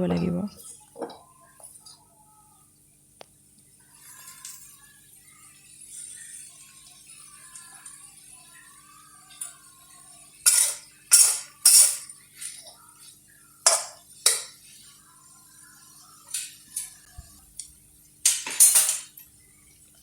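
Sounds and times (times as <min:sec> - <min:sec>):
faint background music: 0:00.0 - 0:20.0.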